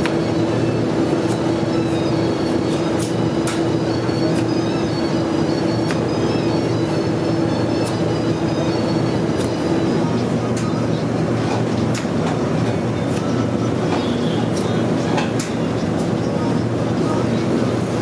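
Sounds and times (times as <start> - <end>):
loud machine hum: 0.0 - 18.0.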